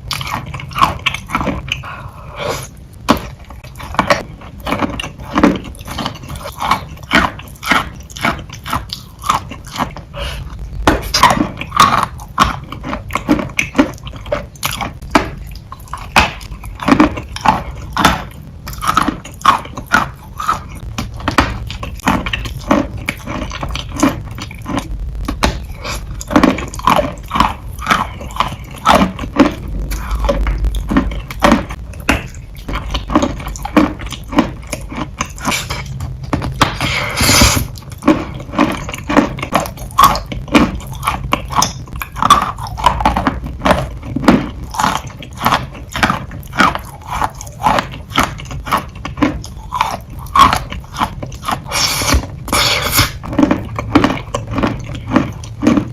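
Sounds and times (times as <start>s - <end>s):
wet chewing crunches: 0.0s - 55.9s.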